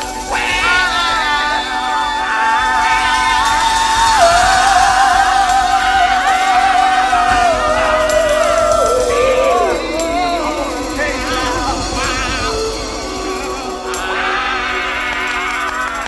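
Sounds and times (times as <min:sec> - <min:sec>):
music: 0:00.0 - 0:16.0
person singing long held notes: 0:00.0 - 0:16.0.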